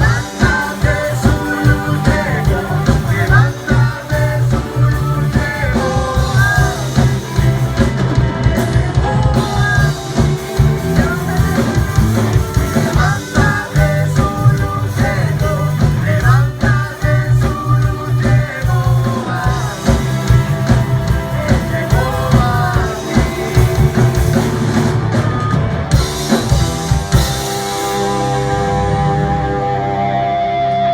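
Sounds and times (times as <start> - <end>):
person singing lead vocal: 0.0 - 26.4
live band playing: 0.0 - 30.9.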